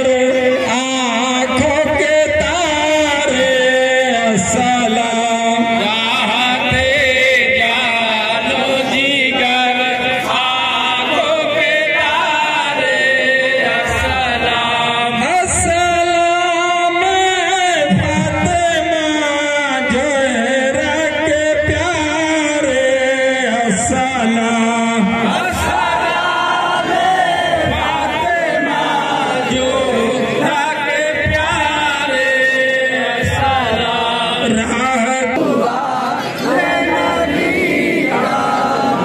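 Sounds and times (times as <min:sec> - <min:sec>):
voices chanting a lament: 0:00.0 - 0:39.0.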